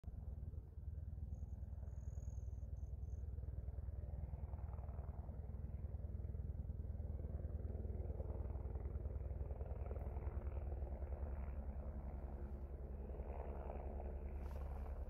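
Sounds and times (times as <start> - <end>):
helicopter rotor pulsing: 0.2 - 15.0.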